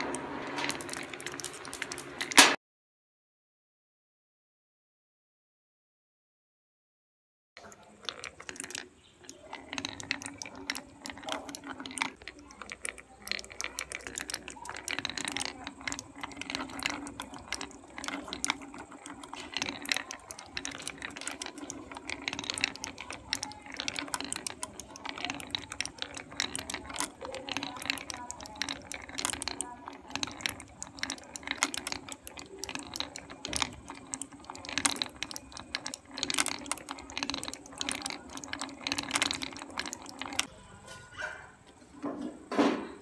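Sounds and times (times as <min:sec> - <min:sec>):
marbles rolling down wooden chute: 0:00.0 - 0:02.6, 0:07.6 - 0:40.5.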